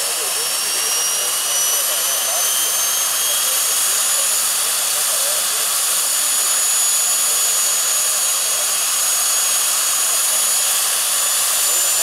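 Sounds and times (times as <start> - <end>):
gas turbine high-pitched whine: 0.0 - 12.0.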